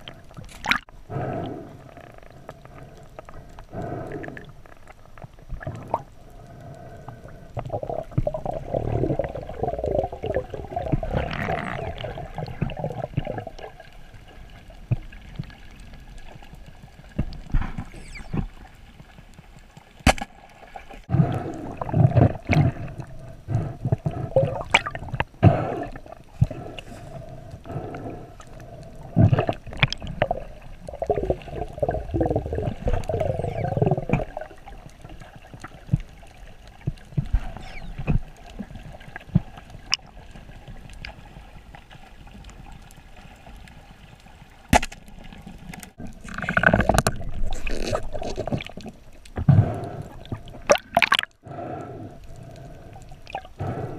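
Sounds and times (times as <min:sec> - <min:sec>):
underwater water rushing and bubbling: 0:00.0 - 0:53.9.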